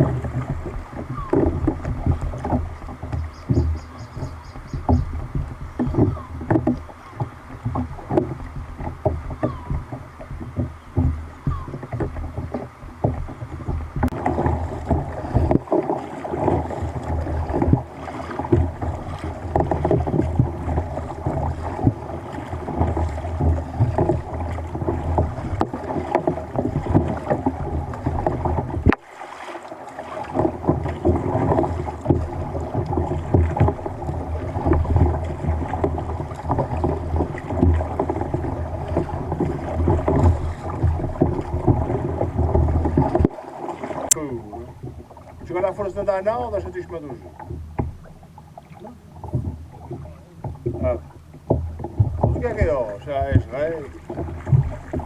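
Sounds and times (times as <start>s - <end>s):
water splashing against kayak hull: 0.0s - 55.0s.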